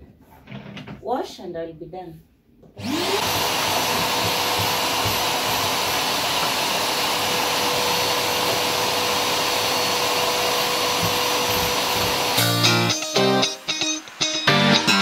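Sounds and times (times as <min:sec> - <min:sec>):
vacuum cleaner running on carpet: 0:02.8 - 0:15.0.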